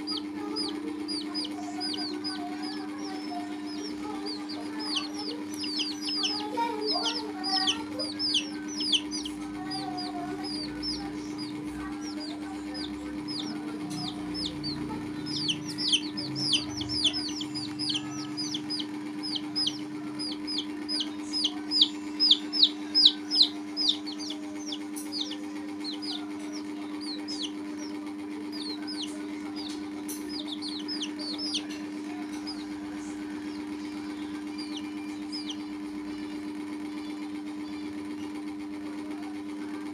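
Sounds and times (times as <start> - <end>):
baby chicks peeping: 0.0 - 39.9
steady low hum: 0.0 - 39.9.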